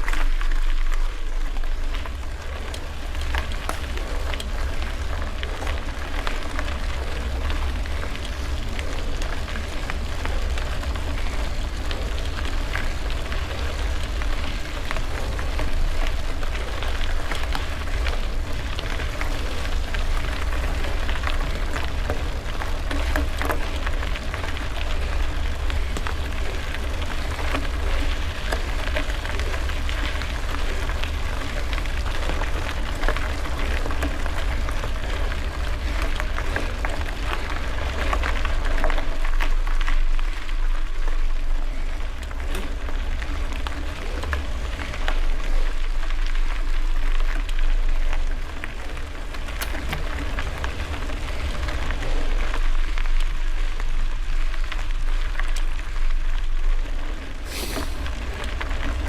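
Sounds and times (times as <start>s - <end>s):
small clicks and rattles: 0.0s - 56.3s
bicycle tyres rolling on gravel: 0.0s - 59.0s
wind rumbling on microphone: 0.0s - 59.0s.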